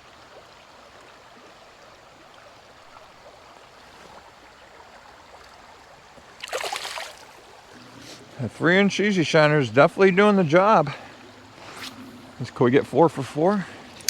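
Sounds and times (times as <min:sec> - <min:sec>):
creek water running: 0:00.0 - 0:14.0
water splashing near microphone: 0:00.0 - 0:14.0.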